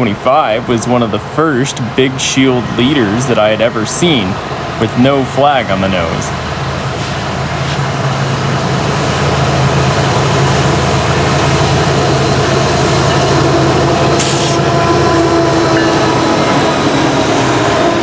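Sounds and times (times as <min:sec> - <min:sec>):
freight train rumbling past: 0:00.0 - 0:18.0
train wheels on rails: 0:00.0 - 0:18.0.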